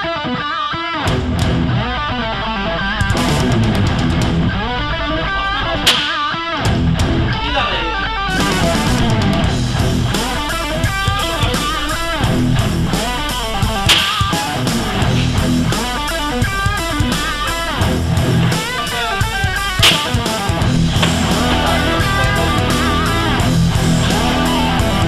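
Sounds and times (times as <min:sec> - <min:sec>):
electric guitar melody: 0:00.0 - 0:25.0
rock backing: 0:00.0 - 0:25.0.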